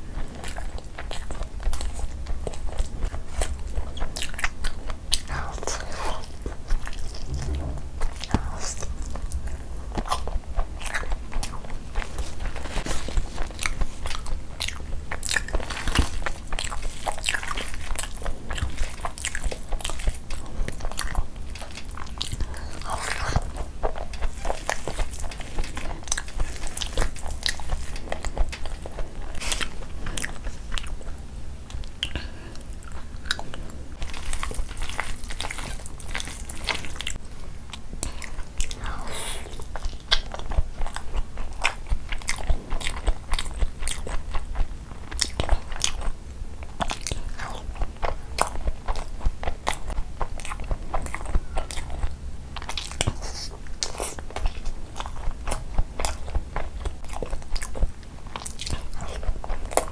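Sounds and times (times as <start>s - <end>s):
wet chewing and mouth smacks: 0.2s - 59.9s.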